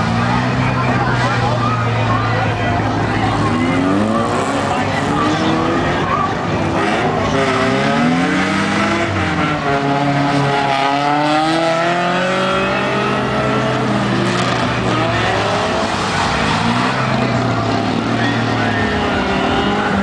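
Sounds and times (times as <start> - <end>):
engine revving hard: 3.1 - 6.0, 6.6 - 20.0.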